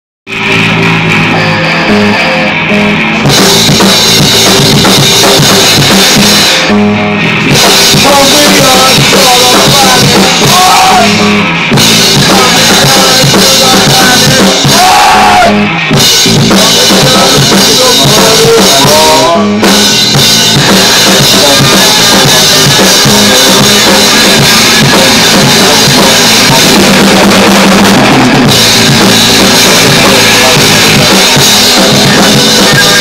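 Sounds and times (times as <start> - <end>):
bass guitar: 0.3 - 33.0
drum kit: 0.3 - 33.0
electric guitar: 0.3 - 33.0.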